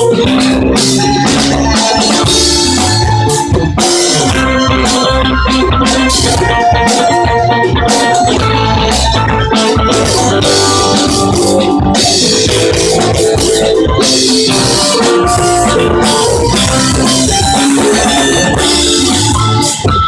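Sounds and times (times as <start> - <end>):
drum kit: 0.0 - 20.0
electric bass: 0.0 - 20.0
electric guitar: 0.0 - 20.0.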